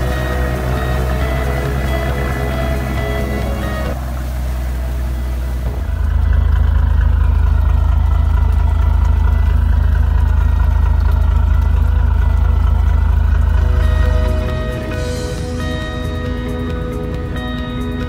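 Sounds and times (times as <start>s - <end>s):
boat diesel engine idling: 0.0s - 18.0s
water pouring from exhaust: 0.0s - 18.0s.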